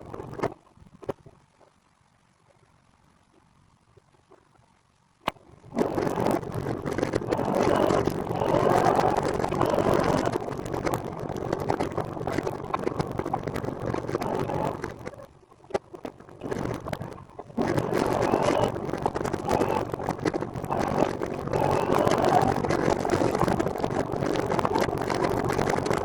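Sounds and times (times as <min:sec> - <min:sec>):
crackles: 0:00.0 - 0:26.0.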